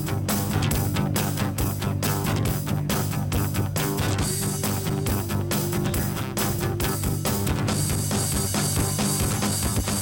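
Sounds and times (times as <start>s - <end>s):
acoustic guitar: 0.0s - 10.0s
electric guitar: 0.0s - 10.0s
keyboard: 0.0s - 10.0s
steady drum beat: 0.0s - 10.0s.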